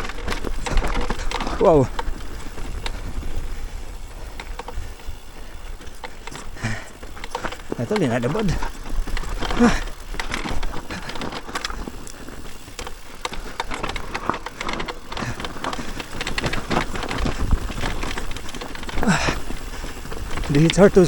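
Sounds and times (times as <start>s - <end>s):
bike rattling and clattering: 0.0s - 21.0s
tyres rolling on dirt: 0.0s - 21.0s
wind buffeting microphone: 0.0s - 21.0s.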